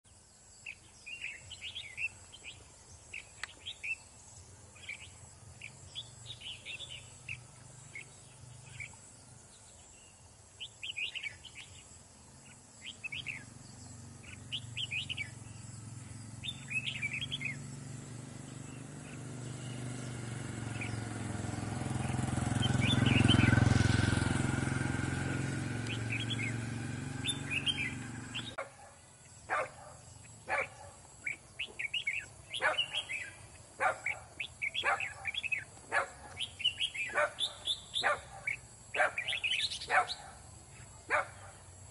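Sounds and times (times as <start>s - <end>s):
bird chirping song: 0.0s - 41.9s
passing motor vehicle: 1.0s - 28.7s, 29.3s - 41.9s.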